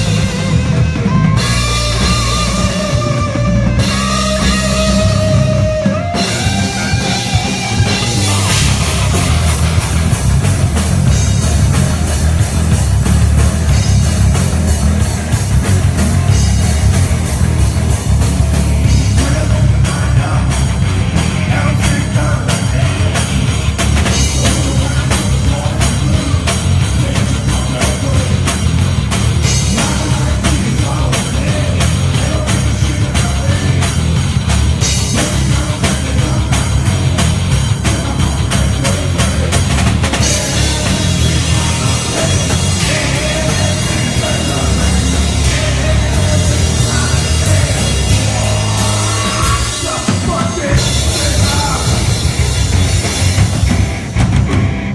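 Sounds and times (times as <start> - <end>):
drum hits: 0.0 - 54.9
rock band playing live: 0.0 - 54.9.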